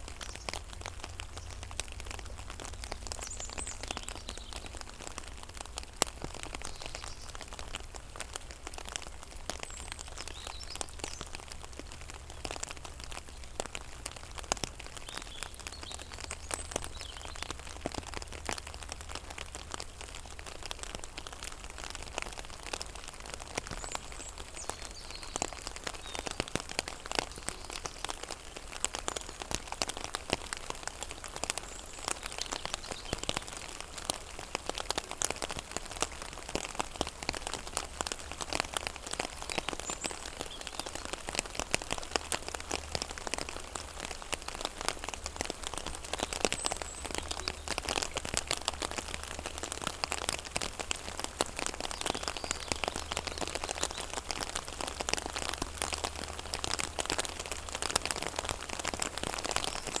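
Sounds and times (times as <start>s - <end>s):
rain on a pond: 0.0s - 60.0s.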